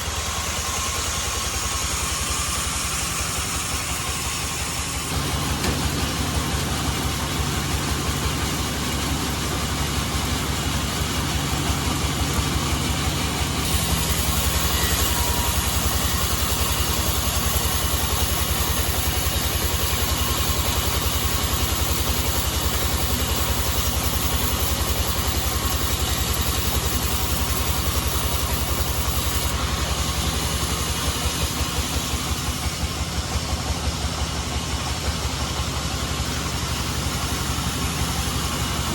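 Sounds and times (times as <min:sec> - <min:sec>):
saw blade cutting log: 0:00.0 - 0:33.1
sawmill engine drone: 0:00.0 - 0:38.9.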